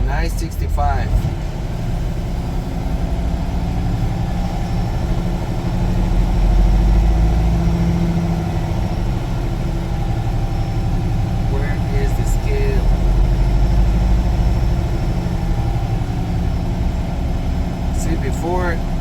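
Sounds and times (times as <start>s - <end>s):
diesel truck engine rumble: 0.0s - 19.0s.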